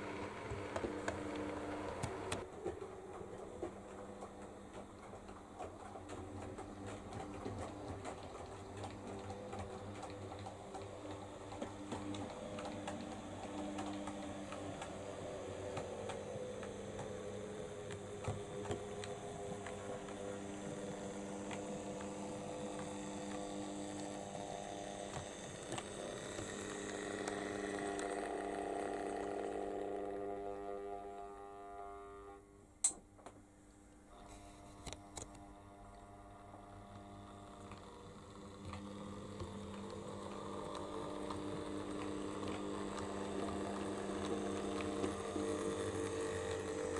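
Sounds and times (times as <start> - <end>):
model train motor humming: 0.0 - 32.5, 34.1 - 46.9
model train clicks: 0.1 - 30.3, 36.4 - 46.9.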